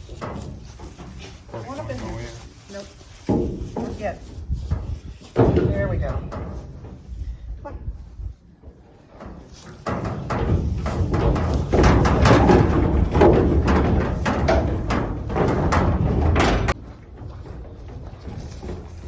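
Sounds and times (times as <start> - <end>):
livestock trailer knocking and rattling: 0.0 - 19.0.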